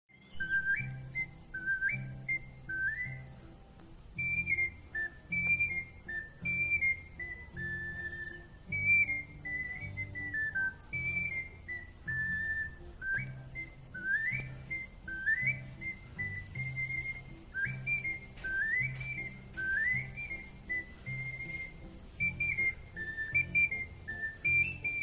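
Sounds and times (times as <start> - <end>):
ocarina melody: 0.1 - 25.0
backing track accompaniment: 0.4 - 25.0.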